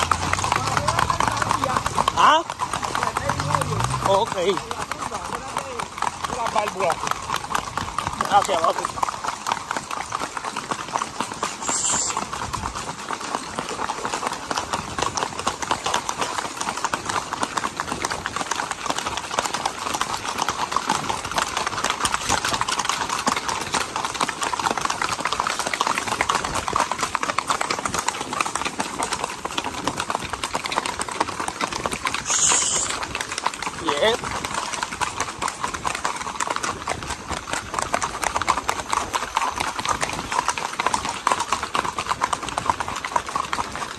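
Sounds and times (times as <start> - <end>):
horse hooves on paved road: 0.0 - 43.9.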